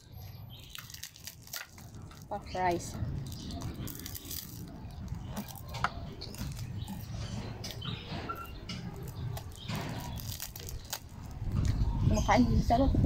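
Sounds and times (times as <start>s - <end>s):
crunching rice cake: 0.0s - 11.8s.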